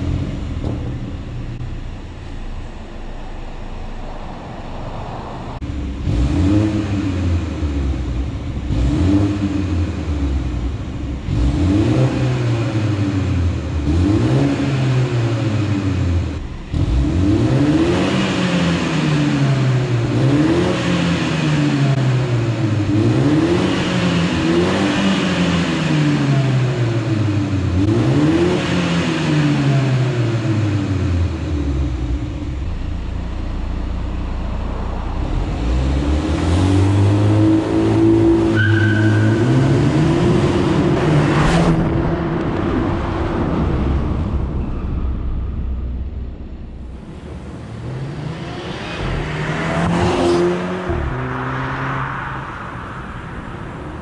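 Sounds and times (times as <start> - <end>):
car accelerating: 0.0 - 54.0
car engine revving: 0.0 - 54.0.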